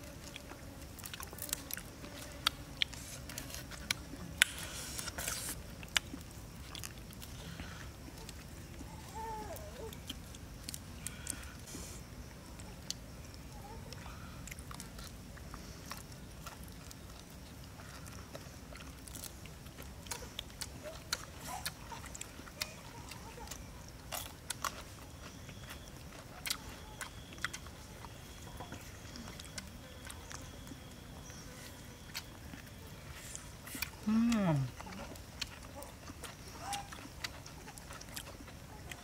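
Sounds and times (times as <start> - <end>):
chewing with wet mouth smacks: 0.0 - 11.7, 12.4 - 39.0.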